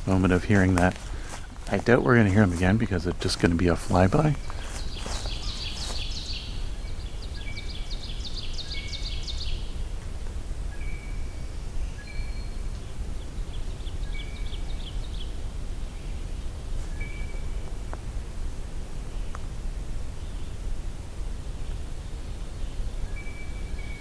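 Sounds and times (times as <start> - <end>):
low rumble of background noise: 0.0 - 24.0.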